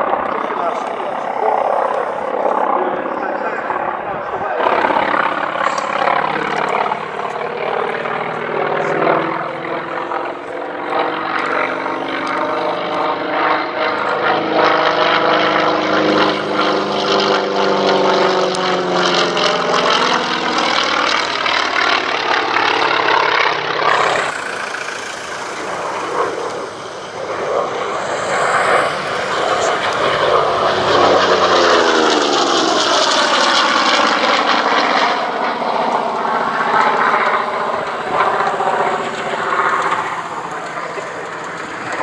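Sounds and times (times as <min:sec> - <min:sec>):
propeller aircraft flying past: 0:00.0 - 0:42.0.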